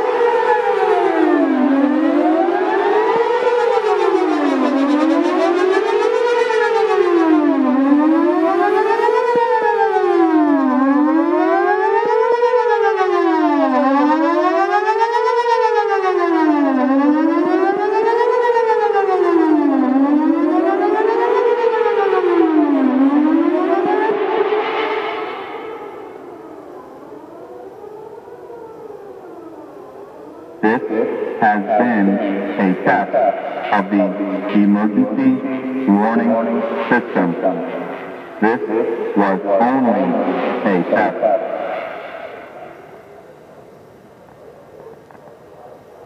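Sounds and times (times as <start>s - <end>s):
warning siren wailing: 0.0s - 46.0s.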